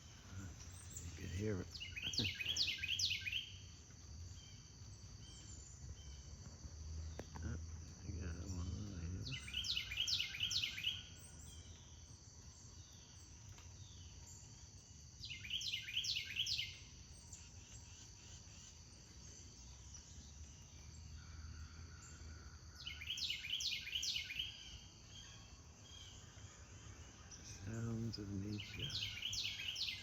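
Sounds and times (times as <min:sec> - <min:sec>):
insects droning: 0:00.0 - 0:30.0
songbird singing: 0:00.0 - 0:30.0.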